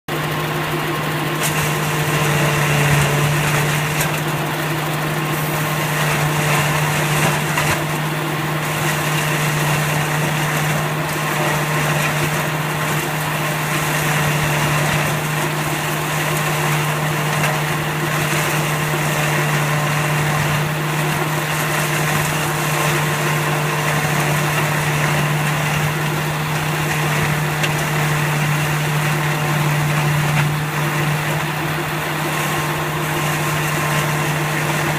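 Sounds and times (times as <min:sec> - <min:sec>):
baler machine droning: 0:00.1 - 0:34.9.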